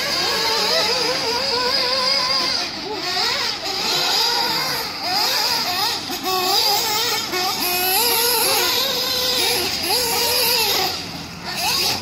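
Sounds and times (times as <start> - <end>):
model nitro engine revving: 0.0 - 12.0.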